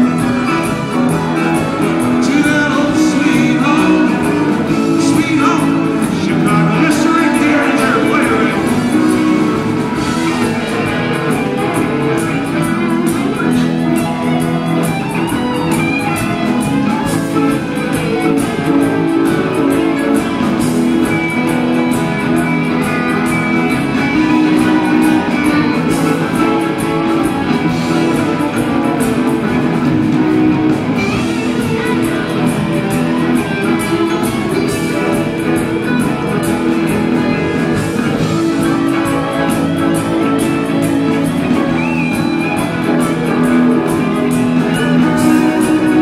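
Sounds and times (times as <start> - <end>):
electric guitars: 0.0 - 46.0
live rock band: 0.0 - 46.0
steady drum beat: 0.0 - 46.0.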